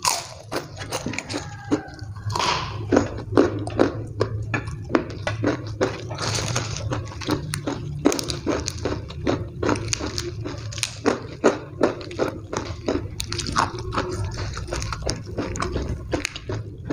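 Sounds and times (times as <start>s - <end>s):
steady low hum: 0.0s - 16.9s
wet chewing: 0.0s - 16.9s.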